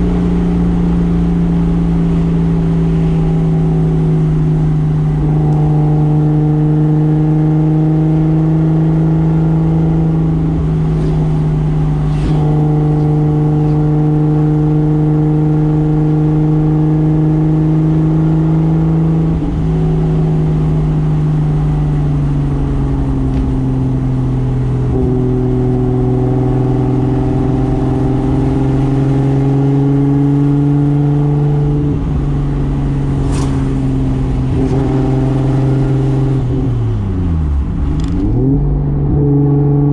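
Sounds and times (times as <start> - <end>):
car engine running steady revs: 0.0 - 39.9.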